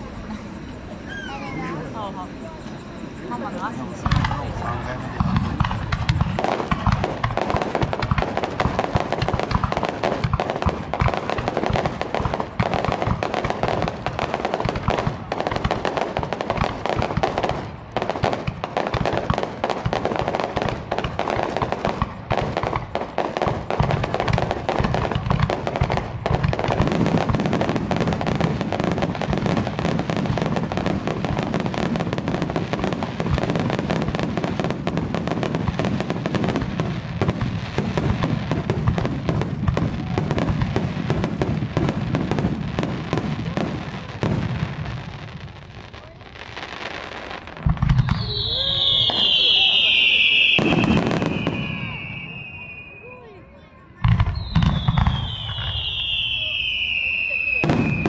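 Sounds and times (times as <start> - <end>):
firework shells bursting: 0.0 - 43.6, 47.3 - 53.1, 54.0 - 58.0.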